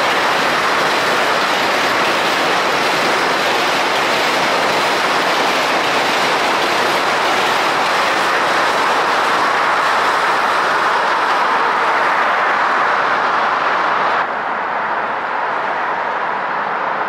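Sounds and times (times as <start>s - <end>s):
city ambience: 0.0s - 17.0s
subway train wheels on rail: 0.0s - 17.0s.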